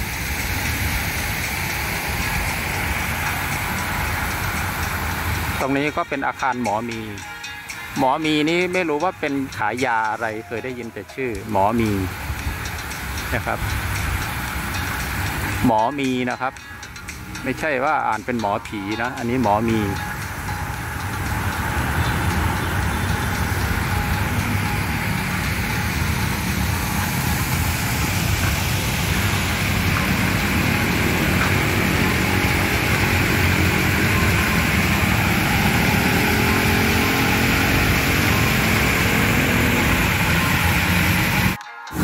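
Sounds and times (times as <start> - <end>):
fountain splashing: 0.0 - 42.0
road traffic: 0.0 - 42.0.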